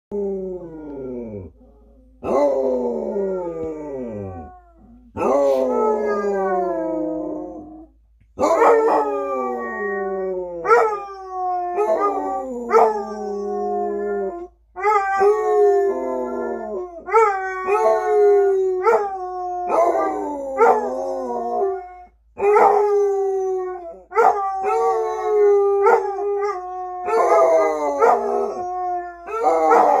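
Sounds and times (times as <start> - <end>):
dogs howling: 0.1 - 30.0.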